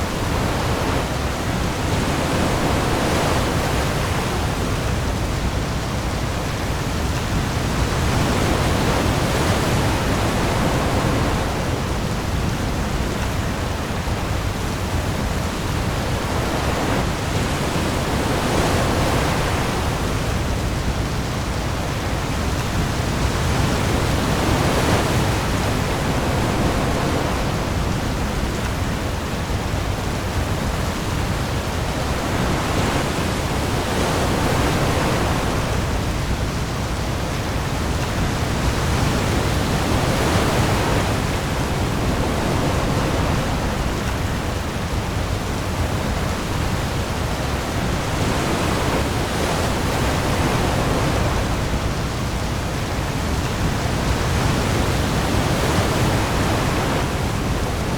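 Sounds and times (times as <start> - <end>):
heavy rain on the sea: 0.0 - 57.9
ocean waves: 0.0 - 57.9.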